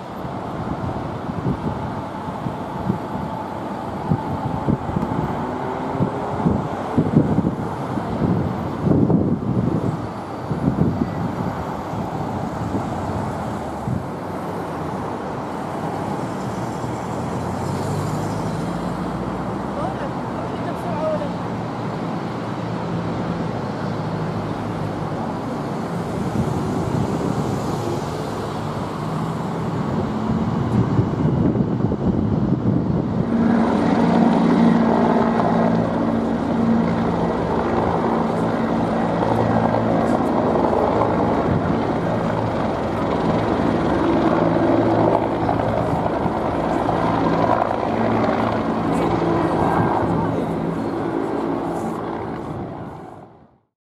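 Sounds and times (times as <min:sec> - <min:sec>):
helicopter rotor drone: 0:00.0 - 0:53.6.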